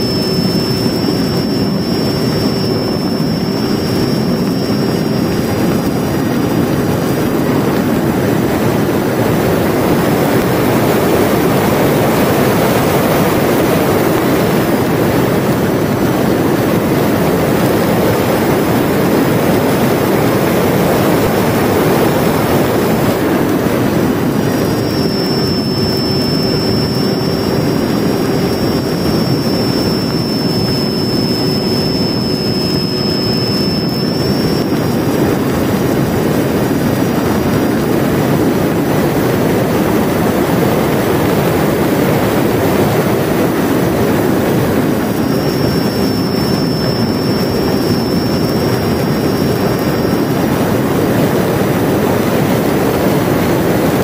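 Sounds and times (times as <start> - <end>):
high electric motor whine: 0.0 - 54.0
spinning propeller: 0.0 - 54.0.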